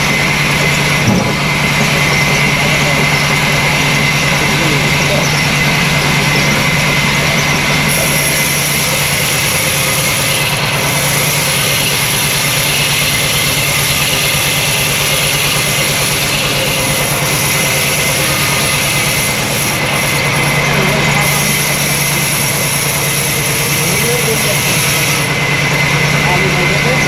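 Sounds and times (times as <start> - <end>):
sawmill machinery running: 0.0 - 27.0.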